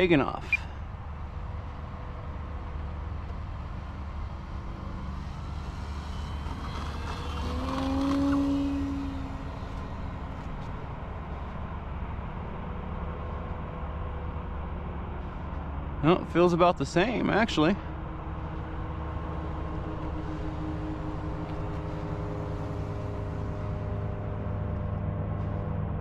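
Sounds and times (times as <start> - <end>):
low rumble: 0.0 - 26.0
model airplane propeller buzzing: 0.7 - 14.5, 16.2 - 25.6.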